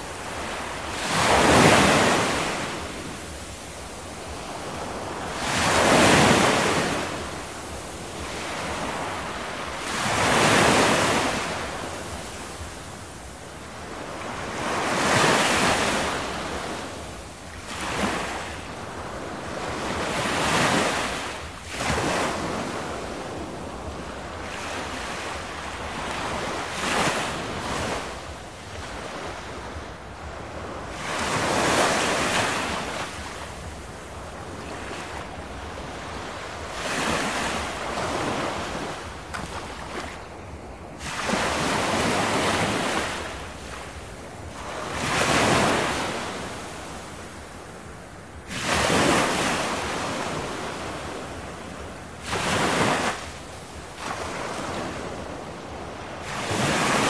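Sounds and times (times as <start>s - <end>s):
ocean waves washing onto shore: 0.0s - 57.0s
steady surf hiss: 0.0s - 57.0s.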